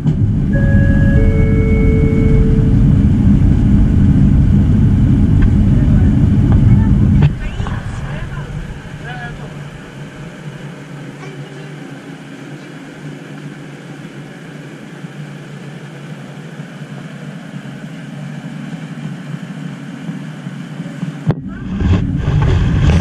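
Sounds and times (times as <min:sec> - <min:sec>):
train cab hum: 0:00.0 - 0:23.0
train low rumble: 0:00.0 - 0:23.0.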